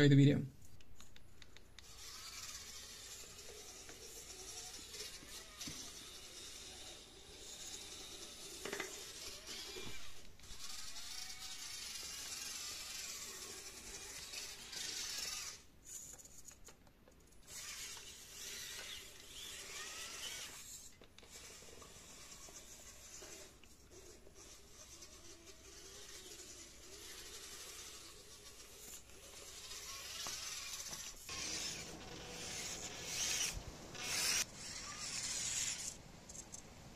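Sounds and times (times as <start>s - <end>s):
rc car electric motor whining: 1.5s - 16.7s, 17.4s - 36.5s.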